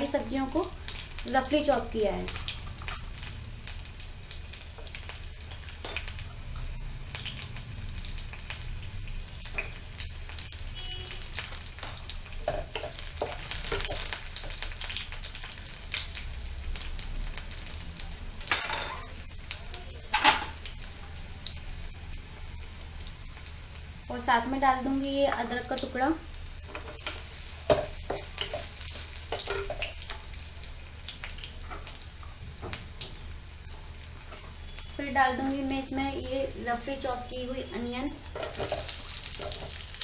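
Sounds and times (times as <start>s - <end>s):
frying sizzle with crackles: 0.0s - 40.0s.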